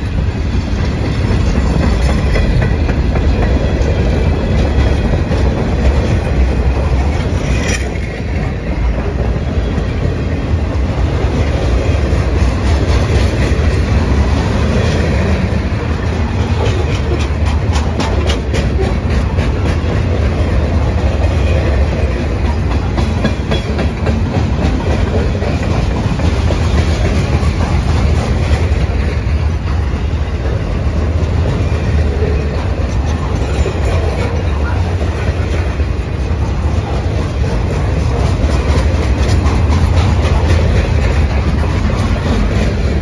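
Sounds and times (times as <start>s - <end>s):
freight cars rumbling: 0.0s - 43.0s
wheels clicking over rail joints: 0.0s - 43.0s.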